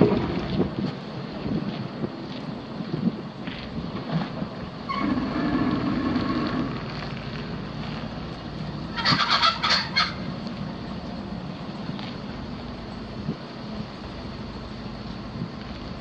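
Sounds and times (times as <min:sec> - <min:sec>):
wind noise: 0:00.0 - 0:08.0, 0:08.7 - 0:14.2.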